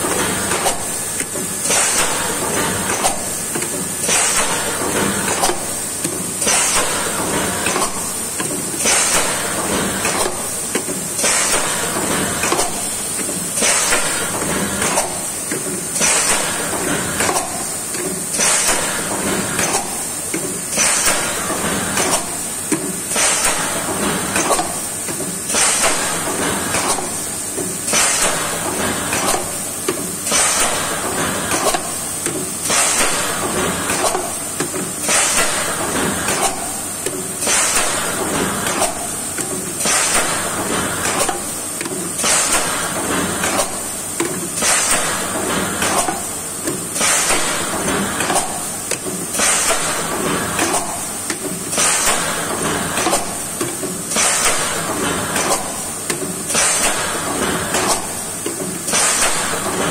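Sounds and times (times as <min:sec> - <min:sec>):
mechanical clacks: 0:00.0 - 0:59.9.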